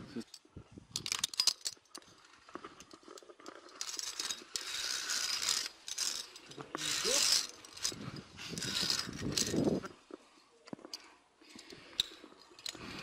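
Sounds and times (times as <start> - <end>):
carabiners clicking on steel cable: 0.2 - 10.0, 10.7 - 13.0.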